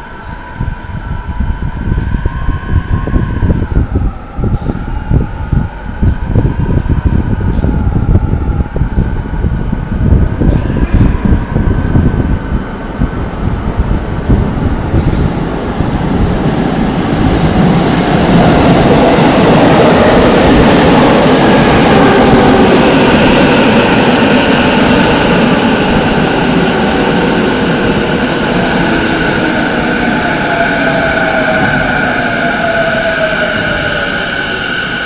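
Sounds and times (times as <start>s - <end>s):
electric train inverter whining: 0.0s - 35.0s
wheels rumbling on rail: 0.0s - 35.0s.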